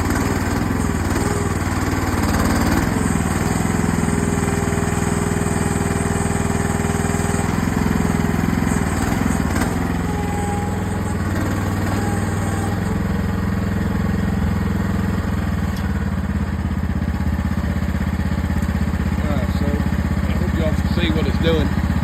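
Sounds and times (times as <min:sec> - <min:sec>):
small excavator engine running: 0:00.0 - 0:22.0.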